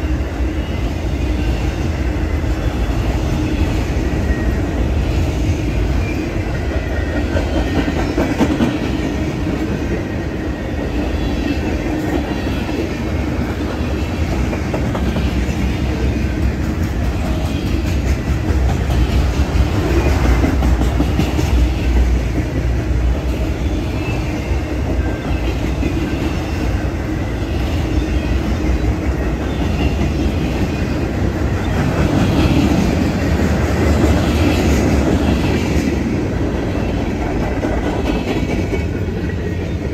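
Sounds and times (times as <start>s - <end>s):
steel wheels rumbling on rail: 0.0s - 39.9s.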